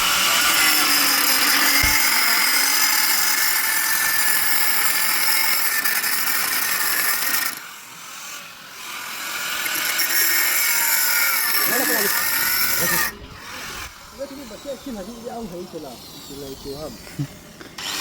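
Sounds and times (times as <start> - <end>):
power tool grinding steel: 0.0 - 18.0.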